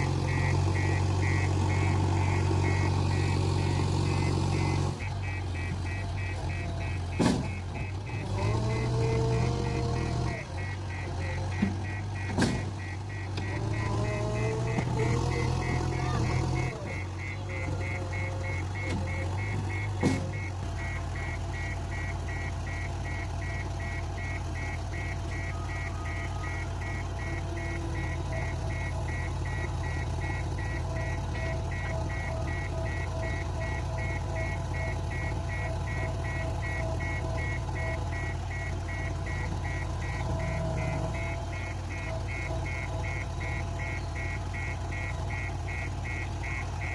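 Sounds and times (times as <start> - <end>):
diesel engine running: 0.0 - 46.9
fast high-pitched beeping: 0.0 - 46.9.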